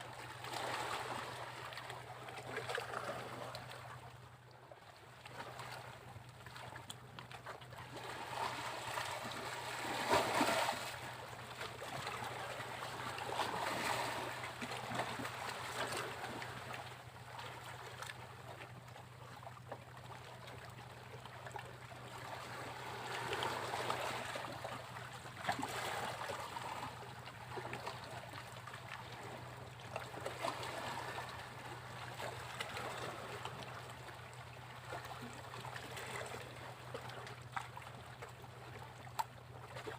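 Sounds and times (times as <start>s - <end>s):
sea waves breaking on a beach: 0.0s - 4.0s, 4.9s - 18.8s, 21.5s - 39.9s.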